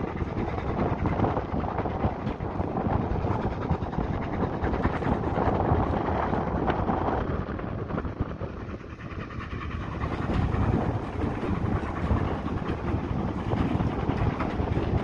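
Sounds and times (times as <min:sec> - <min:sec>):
train wheels rumbling: 0:00.0 - 0:15.0
wind on microphone: 0:00.0 - 0:15.0.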